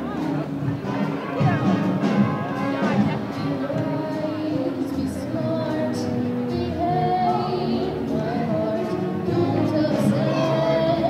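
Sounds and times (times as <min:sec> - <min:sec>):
concert band playing held notes: 0:00.0 - 0:11.0.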